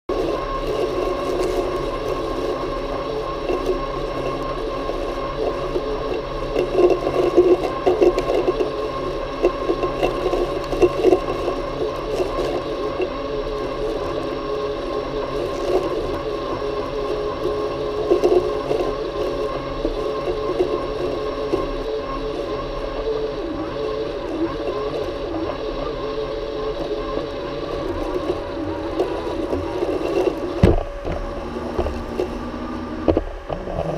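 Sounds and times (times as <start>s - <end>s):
robotic lawn mower motor whine: 0.1s - 33.9s
scraping and rattling: 0.1s - 33.9s.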